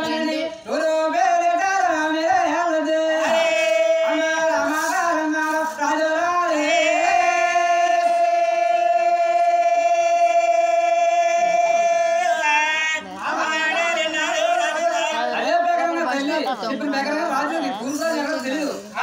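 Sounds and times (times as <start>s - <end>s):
person singing folk melody: 0.0s - 19.0s.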